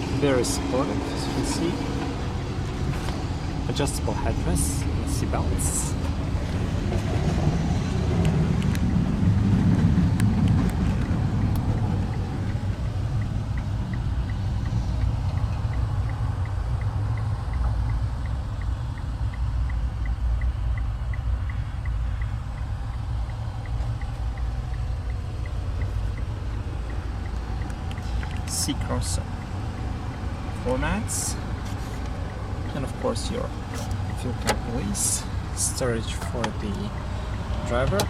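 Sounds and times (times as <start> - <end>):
car cabin low rumble: 0.0 - 38.0.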